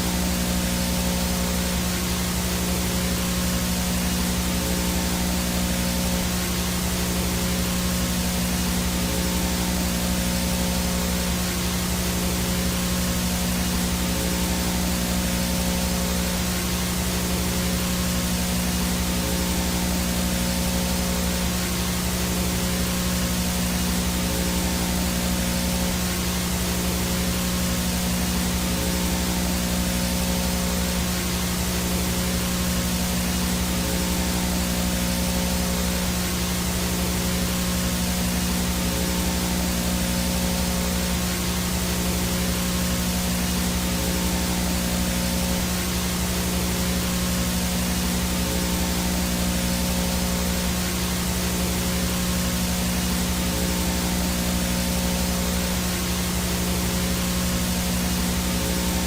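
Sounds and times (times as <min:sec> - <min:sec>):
faint high whine: 0:00.0 - 0:59.0
low buzzing hum: 0:00.0 - 0:59.0
static hiss: 0:00.0 - 0:59.0.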